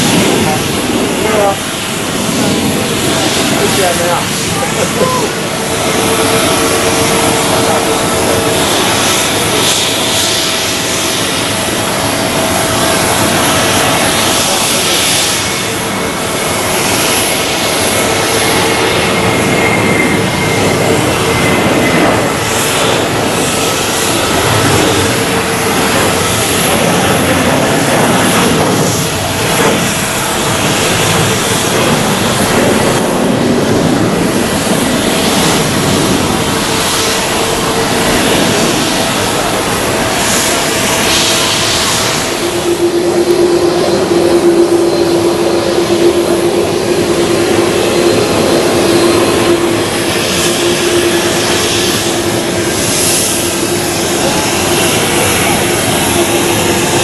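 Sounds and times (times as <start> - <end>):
engine whining tones: 0.0 - 57.0
jet airliner engines running: 0.0 - 57.0.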